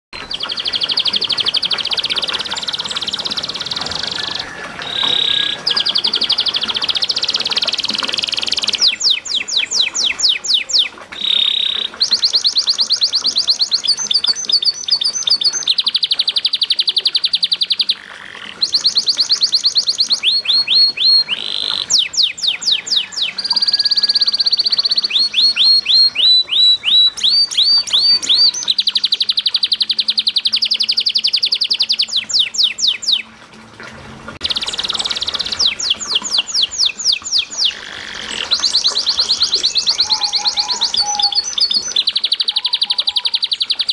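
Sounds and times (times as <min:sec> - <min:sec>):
canary singing trills: 0:00.2 - 0:33.3, 0:34.4 - 0:43.9.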